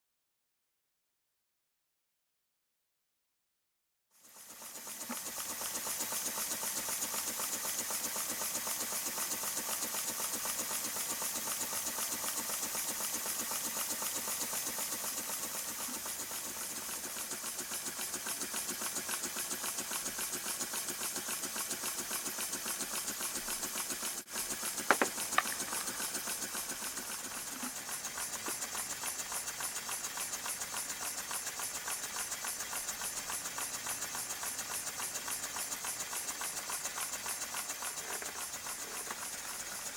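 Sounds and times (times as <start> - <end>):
model steam engine chuffing: 4.1 - 39.9.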